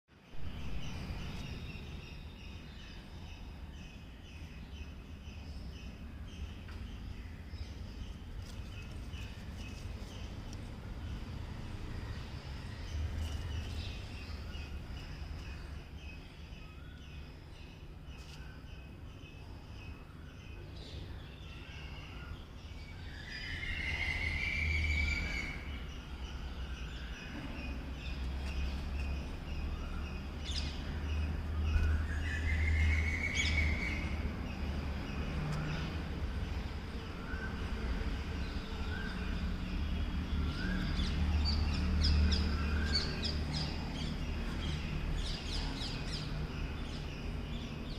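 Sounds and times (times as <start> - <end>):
low outdoor rumble: 0.1 - 47.9.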